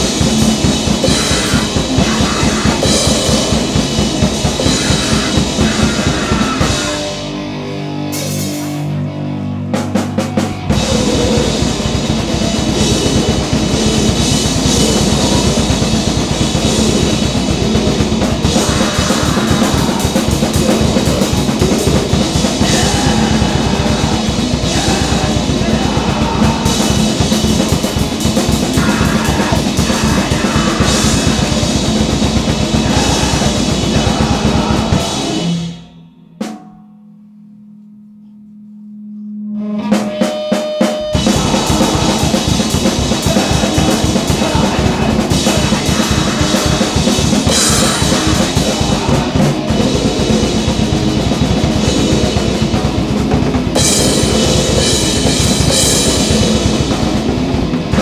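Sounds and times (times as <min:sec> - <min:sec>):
very fast drumming with cymbals: 0:00.0 - 0:07.3, 0:09.8 - 0:35.8, 0:40.0 - 0:58.0
distorted instruments: 0:00.0 - 0:58.0.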